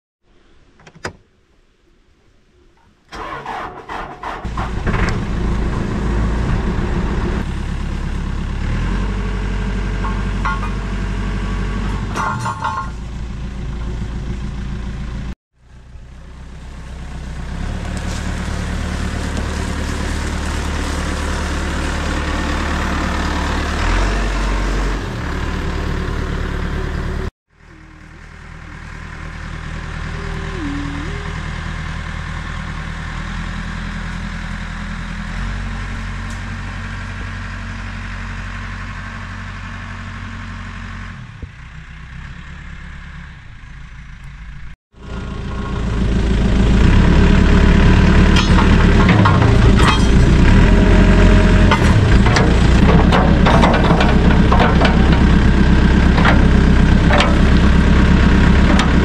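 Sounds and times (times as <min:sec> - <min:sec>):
diesel engine running: 0:03.1 - 0:59.0.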